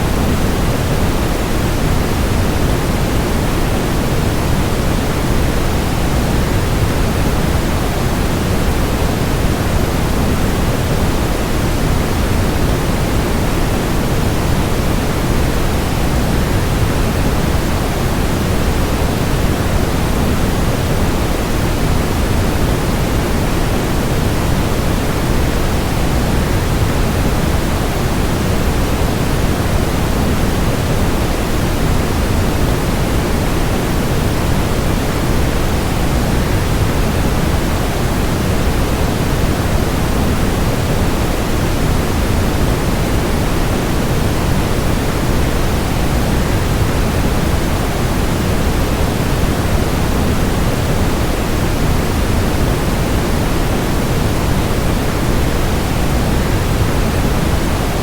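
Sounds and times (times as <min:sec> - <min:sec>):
white noise: 0:00.0 - 0:58.0.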